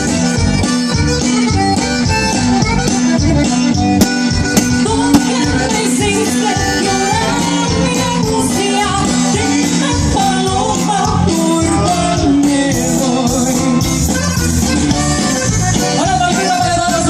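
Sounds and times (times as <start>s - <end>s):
band music with steady beat: 0.0s - 17.0s.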